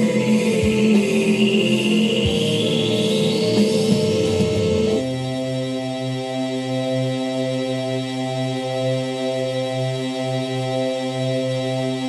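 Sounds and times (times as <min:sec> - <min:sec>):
droning music: 0:00.0 - 0:12.0.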